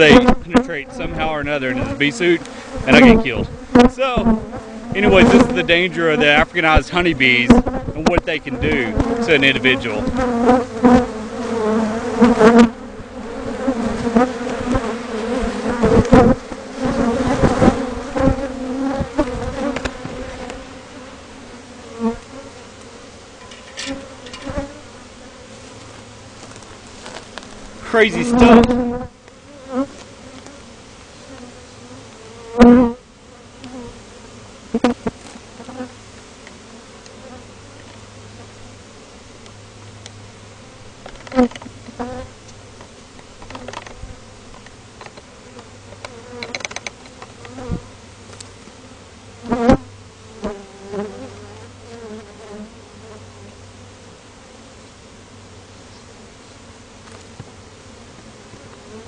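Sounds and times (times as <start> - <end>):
bee buzzing close to microphone: 0.0 - 59.0
bee swarm buzzing: 0.0 - 59.0.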